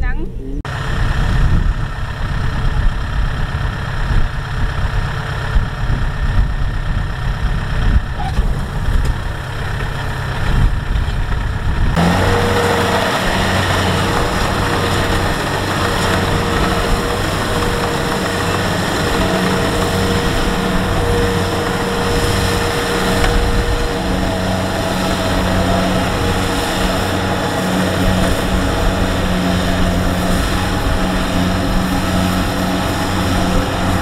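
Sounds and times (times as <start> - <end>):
diesel engine running: 0.0 - 34.0
engine whine: 0.0 - 34.0.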